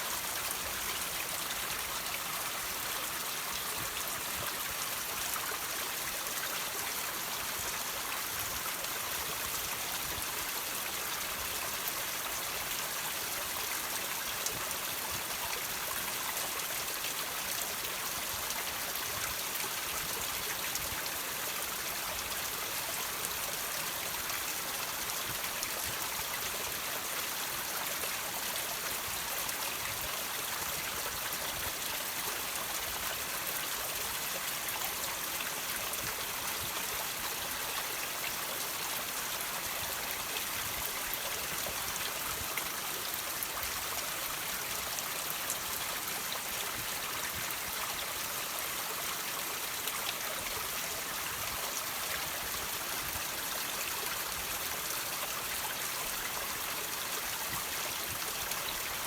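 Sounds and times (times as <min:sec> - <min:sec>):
water trickling over rocks: 0:00.0 - 0:59.0.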